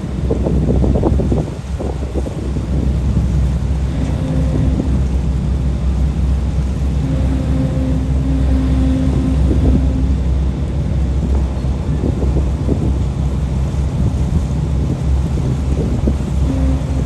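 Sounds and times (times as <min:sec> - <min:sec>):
ferry engine rumbling: 0:00.0 - 0:17.0
steady hum: 0:00.0 - 0:17.0
wind buffeting microphone: 0:00.0 - 0:17.0.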